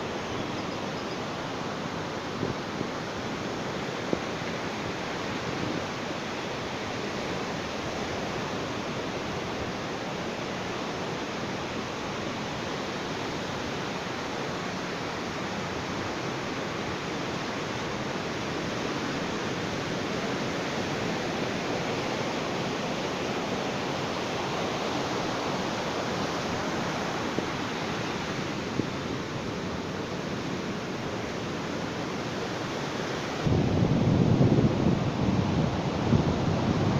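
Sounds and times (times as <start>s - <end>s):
waves breaking on beach: 0.0s - 36.9s.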